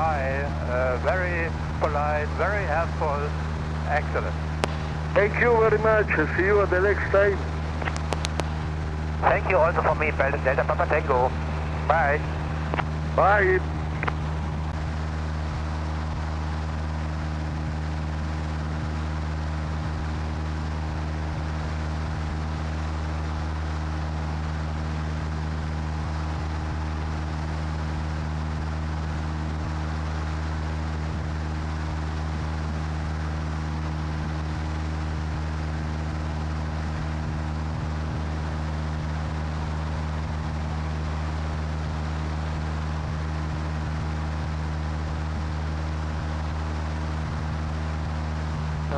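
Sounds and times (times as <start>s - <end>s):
light aircraft engine droning: 0.0s - 48.9s.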